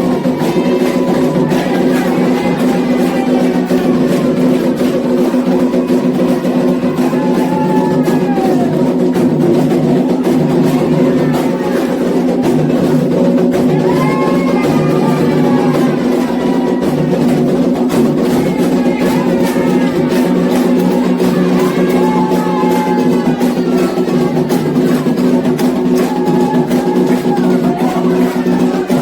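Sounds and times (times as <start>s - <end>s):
hand drums beating: 0.0s - 29.0s
voices singing a chant: 0.0s - 29.0s.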